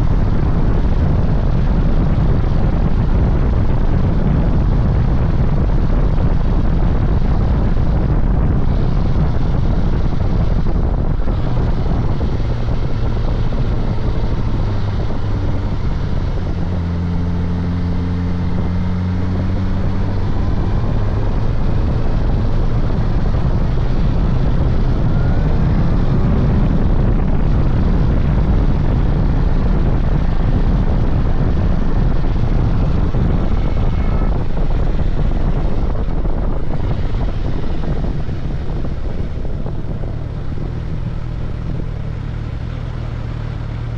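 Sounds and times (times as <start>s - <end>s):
motorcycle engine humming: 0.0s - 43.9s
wind rush on microphone: 0.0s - 43.9s.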